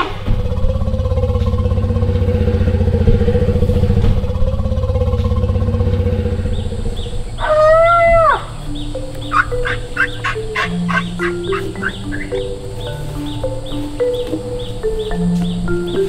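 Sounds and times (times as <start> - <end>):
elephant low rumble: 0.0 - 16.0
elephant high call: 2.1 - 16.0.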